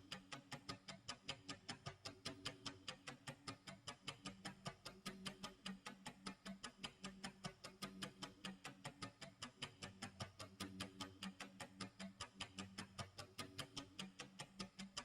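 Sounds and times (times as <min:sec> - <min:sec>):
rapid clock ticks: 0:00.0 - 0:15.0.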